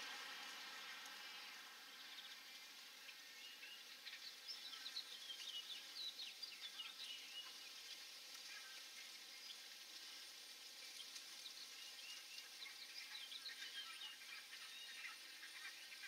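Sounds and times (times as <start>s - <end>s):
steady hiss: 0.0s - 16.0s
bird chirping: 0.6s - 9.7s, 10.8s - 16.0s.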